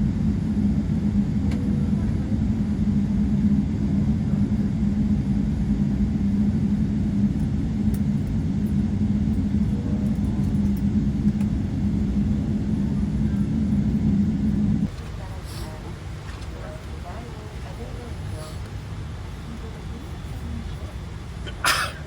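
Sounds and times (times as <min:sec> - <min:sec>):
airliner cabin drone: 0:00.0 - 0:22.0.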